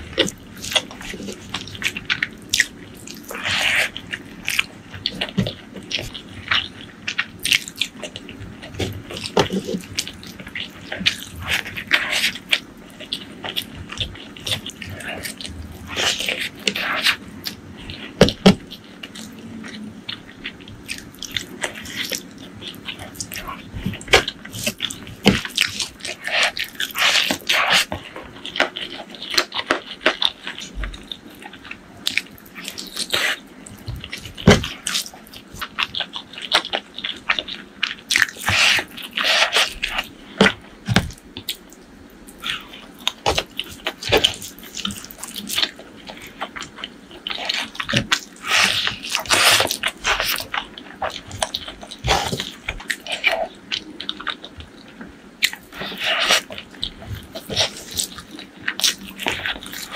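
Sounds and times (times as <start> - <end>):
crunching: 0.0 - 59.9
person chewing food: 0.0 - 59.9.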